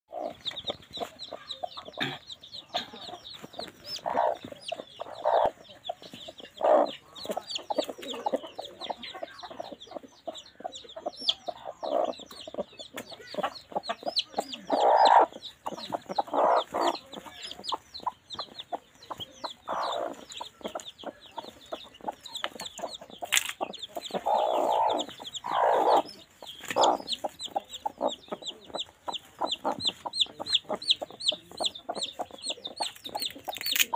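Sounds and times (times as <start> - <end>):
hens clucking: 0.1 - 33.9.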